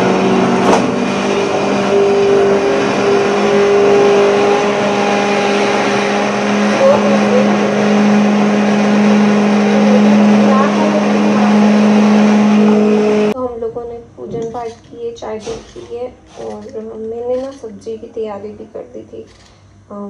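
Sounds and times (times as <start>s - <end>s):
kitchen machine droning: 0.0s - 20.0s.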